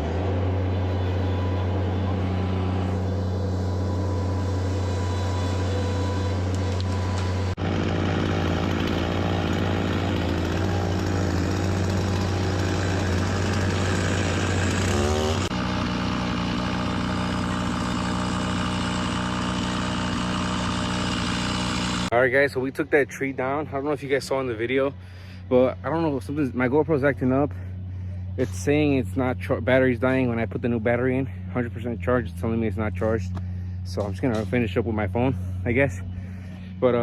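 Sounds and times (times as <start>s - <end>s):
loader engine running under load: 0.0s - 22.2s, 23.6s - 37.0s.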